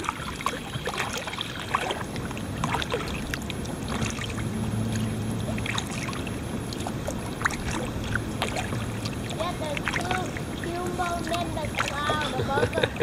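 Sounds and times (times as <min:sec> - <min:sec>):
low steady hum: 0:00.0 - 0:13.0
moving water wash: 0:00.0 - 0:13.0
paddle dipping through water: 0:00.0 - 0:13.0
water drips and small splashes: 0:00.0 - 0:13.0.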